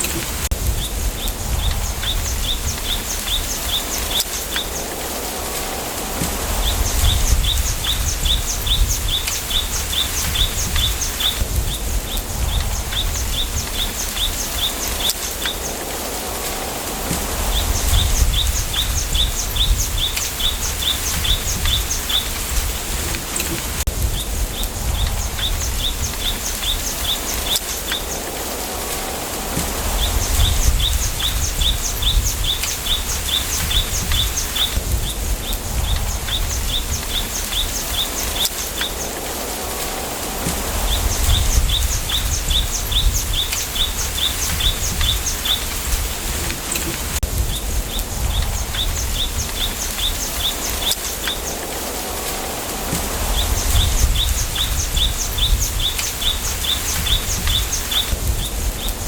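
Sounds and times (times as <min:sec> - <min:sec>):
bamboo leaves rustling in wind: 0:00.0 - 0:59.0
wind rumble on microphone: 0:00.0 - 0:59.0.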